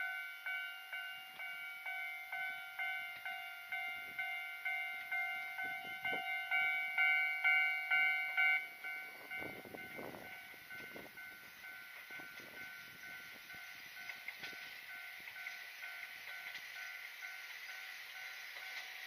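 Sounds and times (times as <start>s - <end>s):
level crossing warning bell: 0.0s - 19.0s.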